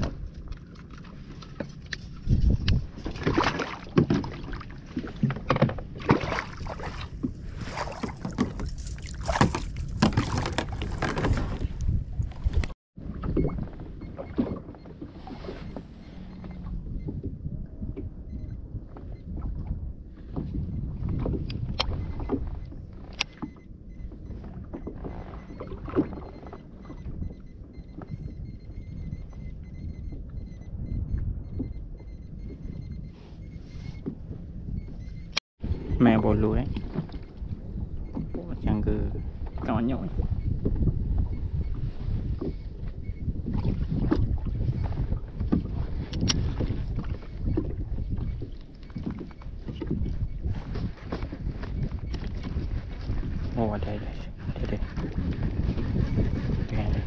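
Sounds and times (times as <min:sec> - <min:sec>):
low rumble of wind and water: 0:00.0 - 0:57.0
waves lapping against kayak hull: 0:00.0 - 0:57.0.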